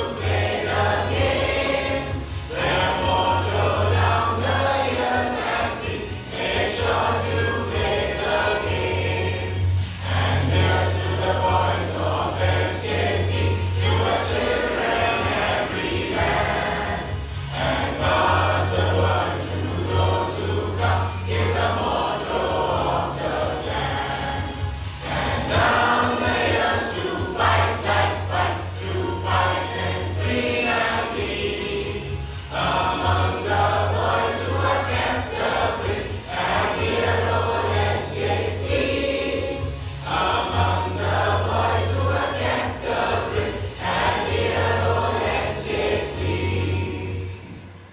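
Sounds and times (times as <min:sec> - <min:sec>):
choir singing: 0:00.0 - 0:47.9
instrumental accompaniment: 0:00.0 - 0:47.9.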